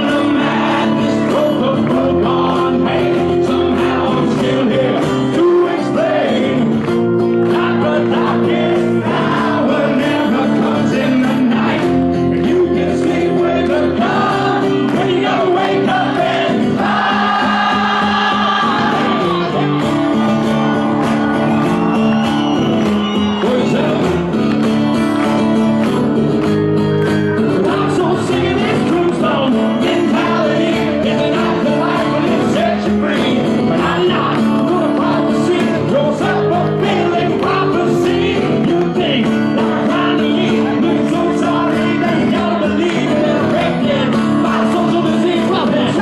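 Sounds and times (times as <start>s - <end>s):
acoustic guitar strumming: 0.0s - 46.0s
crowd singing and shouting: 0.0s - 46.0s.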